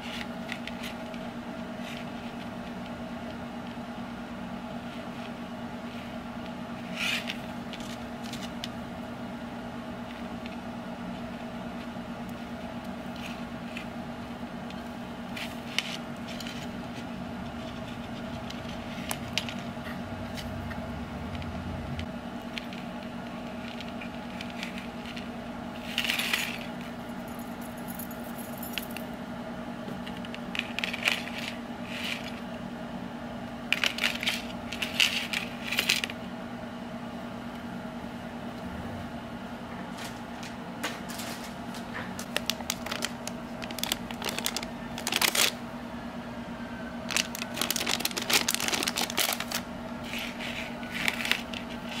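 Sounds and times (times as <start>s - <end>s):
steady background hum: 0.0s - 52.0s.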